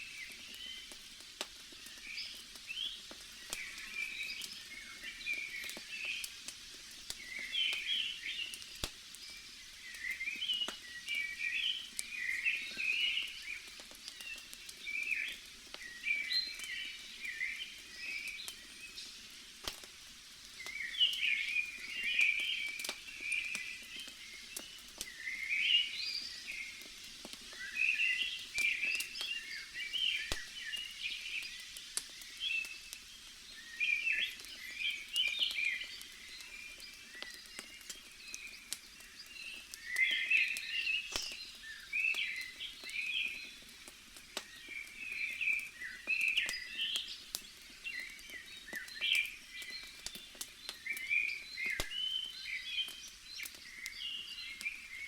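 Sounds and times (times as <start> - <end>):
bonfire crackling: 0.0 - 55.0
small birds chirping: 0.0 - 55.0.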